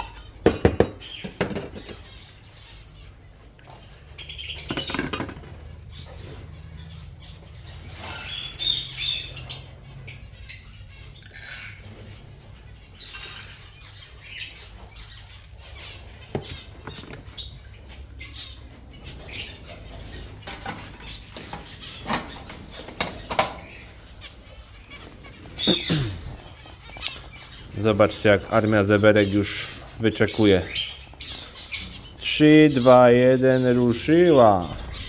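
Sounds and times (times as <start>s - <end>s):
bird chirps and squawks: 0.0s - 35.0s.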